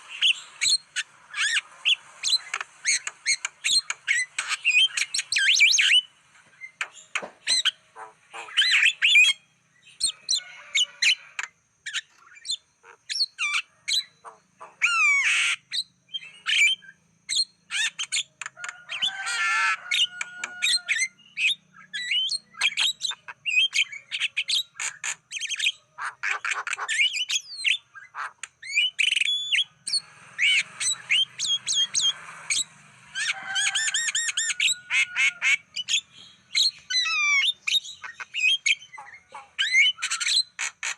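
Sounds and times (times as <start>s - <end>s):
bird whistling and squawking: 0.1s - 6.8s, 7.4s - 9.4s, 10.0s - 40.9s.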